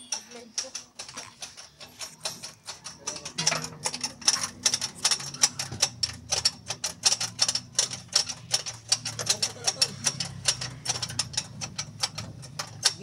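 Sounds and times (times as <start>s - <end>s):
rapid irregular clicking: 0.0s - 13.0s.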